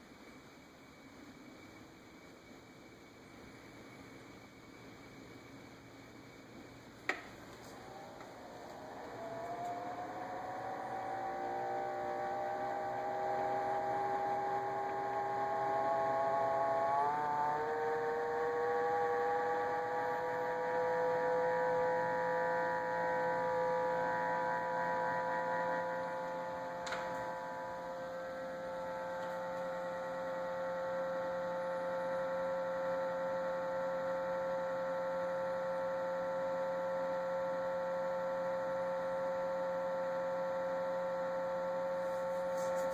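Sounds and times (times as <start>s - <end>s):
refrigerator tonal hum: 0.0s - 42.9s.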